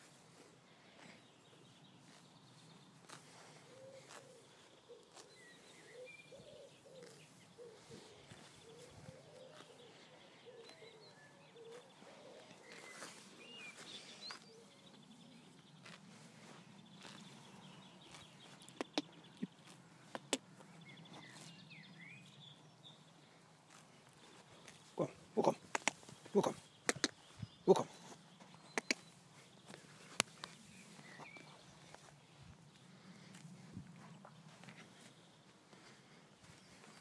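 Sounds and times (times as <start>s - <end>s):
faint birdsong: 0.0s - 37.0s.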